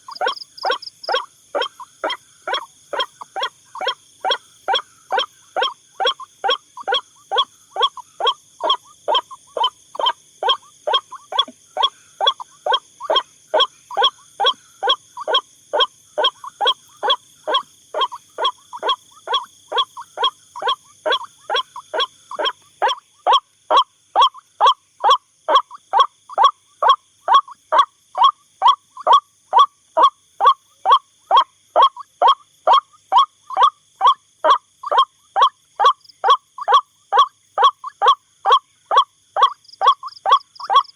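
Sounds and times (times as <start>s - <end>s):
waterhen croaking call: 0.0s - 40.9s.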